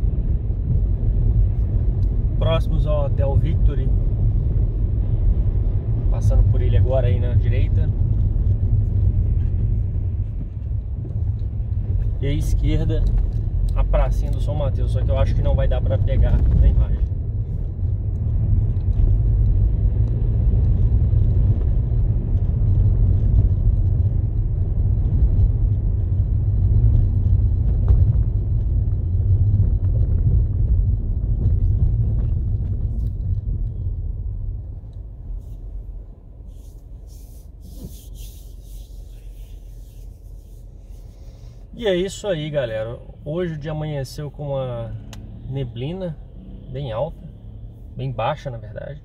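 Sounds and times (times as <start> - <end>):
car engine and tyres rumbling: 0.0 - 49.0.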